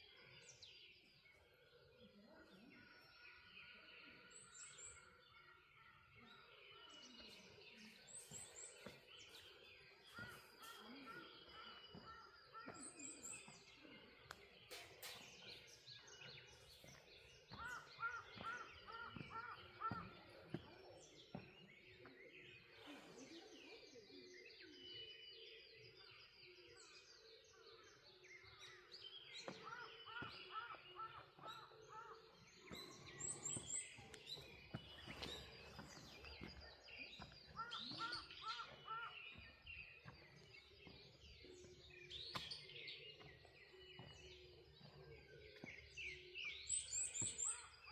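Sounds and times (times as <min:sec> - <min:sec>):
birds calling: 0:00.0 - 0:24.1, 0:27.9 - 0:47.9.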